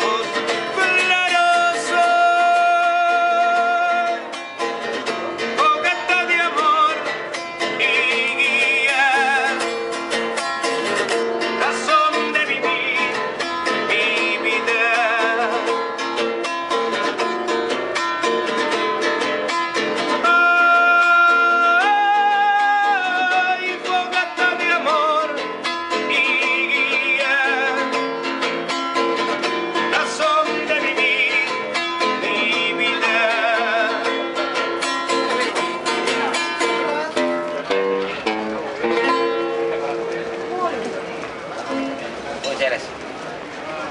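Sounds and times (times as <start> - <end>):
man singing with vibrato: 0.0 - 37.8
strummed classical guitar: 0.0 - 43.9.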